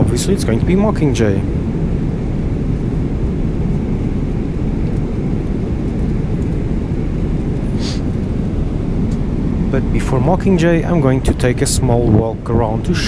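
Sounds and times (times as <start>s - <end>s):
airplane cabin engine roar: 0.0s - 13.0s.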